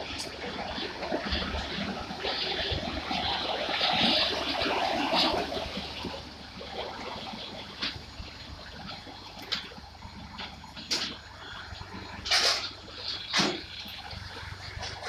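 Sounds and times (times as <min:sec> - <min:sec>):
crane train rattling and creaking: 0:00.0 - 0:15.0.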